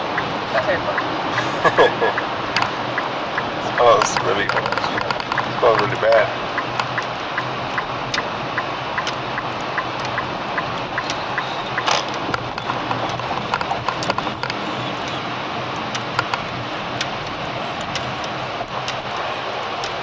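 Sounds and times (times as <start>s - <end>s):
sharp clicks and ticks: 0.0s - 1.5s, 2.1s - 20.0s
road and engine noise in car: 0.0s - 20.0s.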